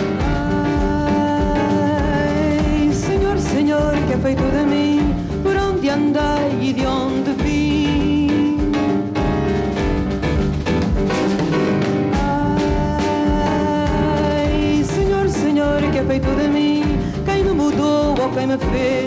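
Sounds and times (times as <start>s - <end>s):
woman singing: 0.0s - 9.2s, 12.1s - 19.0s
live band with drum kit: 0.0s - 19.0s.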